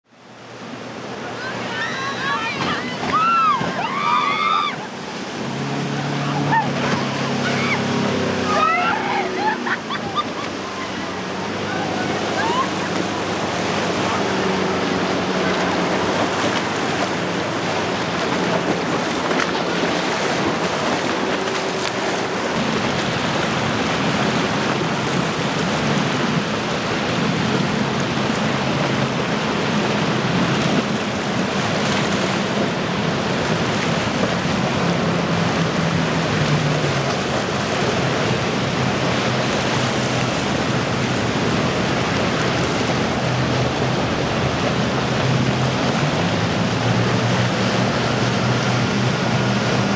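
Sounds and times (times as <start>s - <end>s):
boat wake and spray hiss: 0.0s - 49.9s
outboard engines droning: 0.0s - 49.9s.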